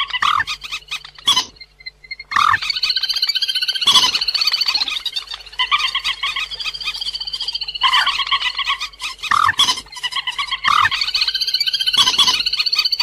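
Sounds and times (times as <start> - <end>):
waterbird rapid high chattering: 2.4 - 13.0.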